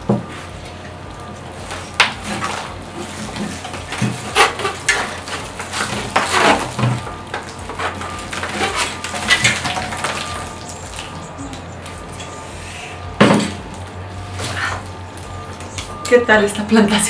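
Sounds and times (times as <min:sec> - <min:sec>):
rustling and scraping: 0:00.0 - 0:16.0.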